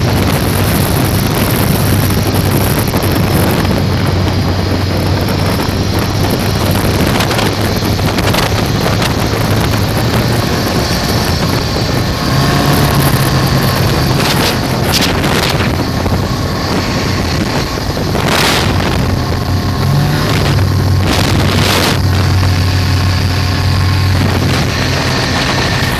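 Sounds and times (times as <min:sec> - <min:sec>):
motorboat engine: 0:00.0 - 0:25.9
wind buffeting microphone: 0:00.0 - 0:25.9.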